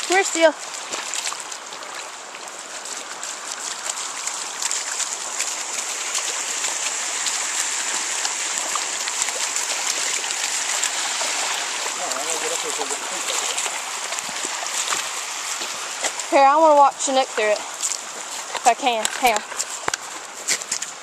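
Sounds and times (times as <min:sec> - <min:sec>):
dogs splashing through water: 0:00.0 - 0:21.0
stream flowing over rocks: 0:00.0 - 0:21.0.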